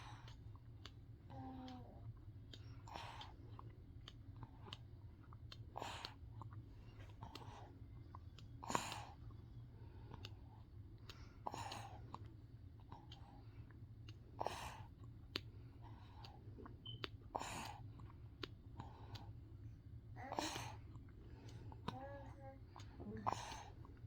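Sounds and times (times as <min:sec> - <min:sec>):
baby sucking wet clicks: 0:00.0 - 0:19.6, 0:20.2 - 0:24.0.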